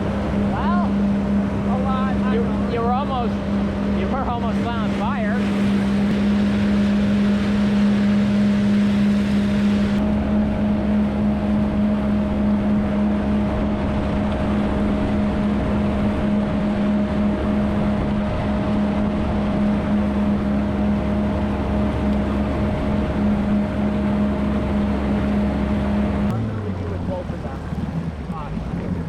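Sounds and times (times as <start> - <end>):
boat engine running: 0.0 - 29.0
water rushing past: 0.0 - 29.0
wind on microphone: 0.0 - 29.0.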